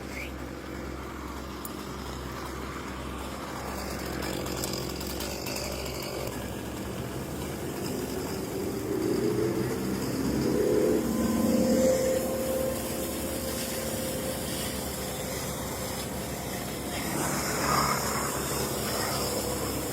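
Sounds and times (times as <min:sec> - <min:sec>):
chainsaw engine running: 0:00.0 - 0:19.9
even hiss: 0:00.0 - 0:19.9.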